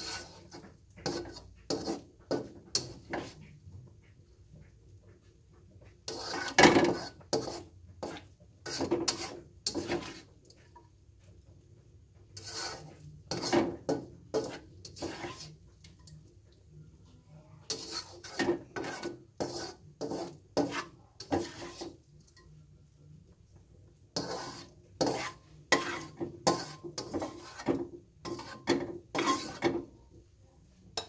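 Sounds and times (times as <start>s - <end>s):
spatula scraping a wok: 0.0s - 16.4s, 17.6s - 22.5s, 23.9s - 31.0s.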